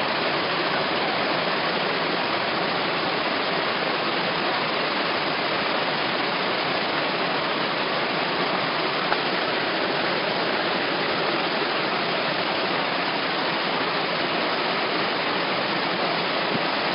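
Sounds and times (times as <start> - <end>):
floodwater pouring down street: 0.0 - 16.9
torrential downpour: 0.0 - 16.9.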